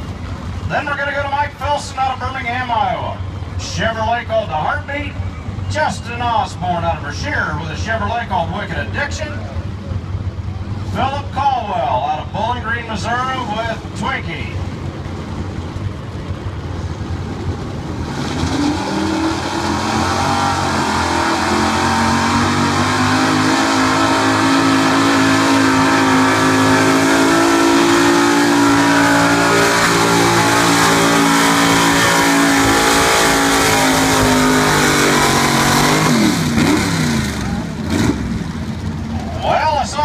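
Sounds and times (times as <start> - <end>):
truck engine at full throttle: 0.0 - 40.0.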